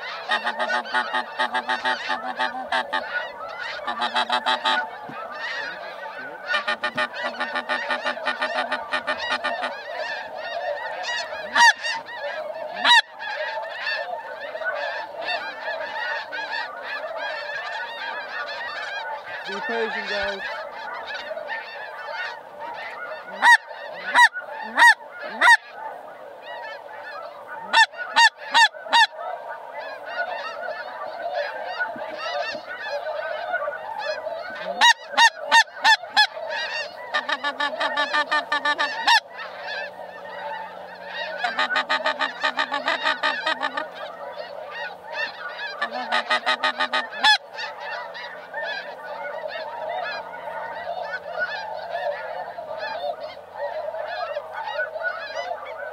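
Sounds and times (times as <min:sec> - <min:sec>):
geese honking: 0:00.0 - 0:55.9.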